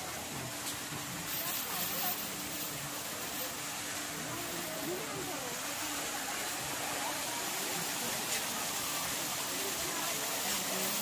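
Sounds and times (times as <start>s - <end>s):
faint distant voices: 0.0s - 11.0s
steady outdoor hiss: 0.0s - 11.0s.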